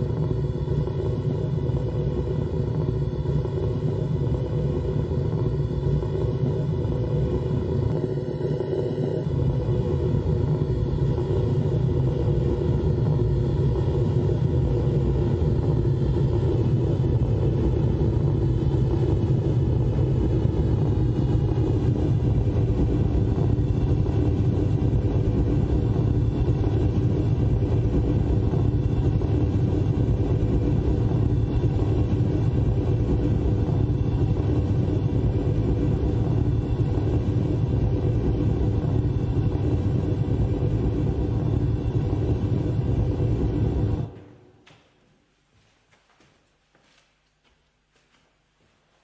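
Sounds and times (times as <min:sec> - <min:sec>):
low rumbling drone: 0:00.0 - 0:44.5.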